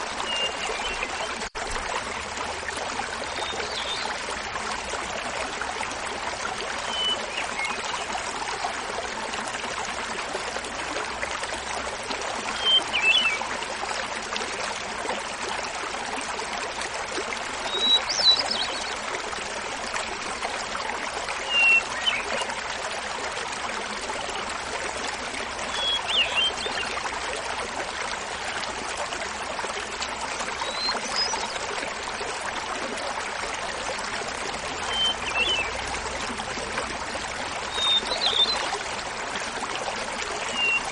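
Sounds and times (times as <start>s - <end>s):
waterfall babbling: 0.0s - 40.9s.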